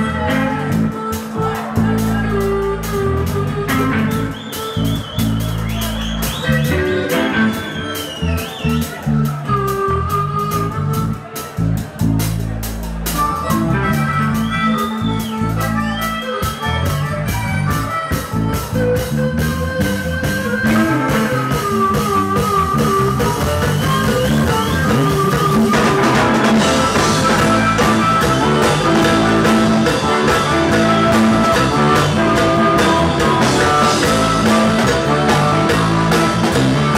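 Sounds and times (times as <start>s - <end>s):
drum kit: 0.0s - 36.9s
electric guitars: 0.0s - 36.9s
harmonica through microphone: 0.0s - 36.9s.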